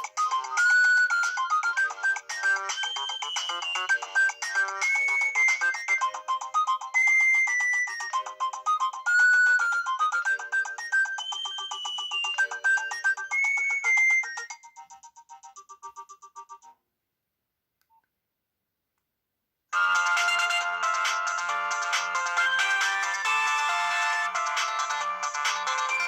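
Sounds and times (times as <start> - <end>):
phone ringtone melody: 0.0 - 16.8, 19.8 - 26.0.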